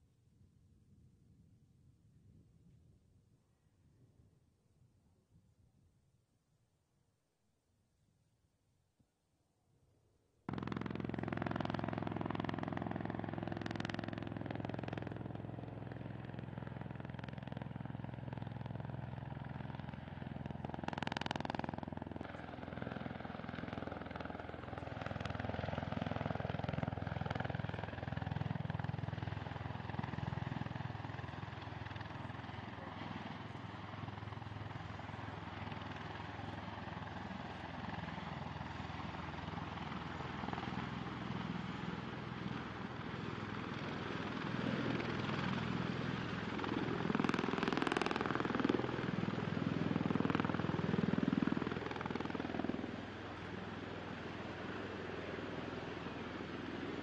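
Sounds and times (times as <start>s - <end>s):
aircraft engines and rotors drone: 9.8s - 57.0s.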